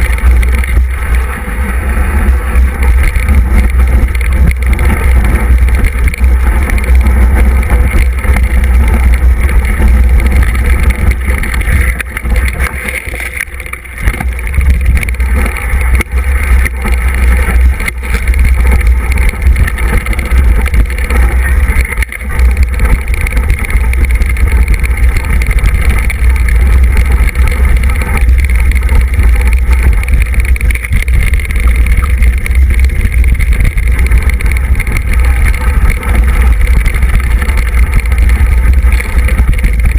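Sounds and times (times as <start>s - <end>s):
wind and trail vibration rumble: 0.0s - 39.9s.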